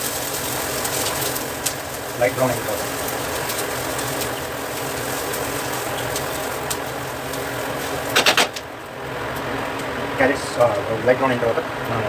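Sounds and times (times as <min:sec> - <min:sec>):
faint crackles: 0:00.0 - 0:12.0
vegetables sizzling in a pan: 0:00.0 - 0:12.0.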